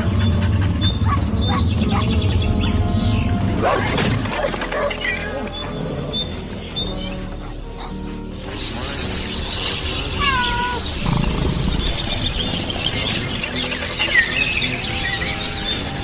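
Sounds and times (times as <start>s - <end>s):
birdlike chirping and twittering: 0.0s - 3.8s, 4.7s - 16.0s.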